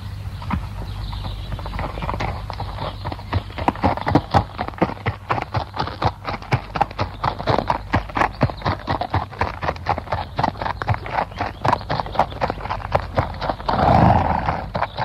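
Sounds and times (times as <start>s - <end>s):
horses galloping hoofbeats: 0.0s - 15.0s
steady low hum: 0.0s - 15.0s.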